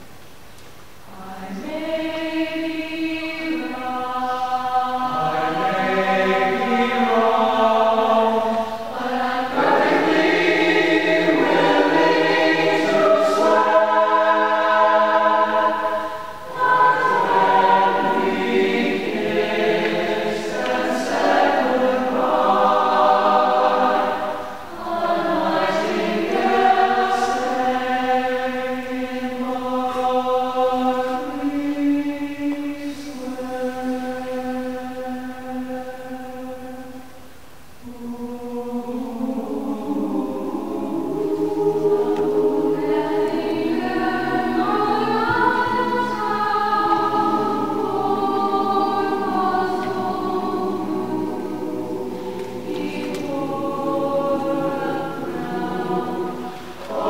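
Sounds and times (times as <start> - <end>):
choir singing a cappella: 0.9 - 57.0.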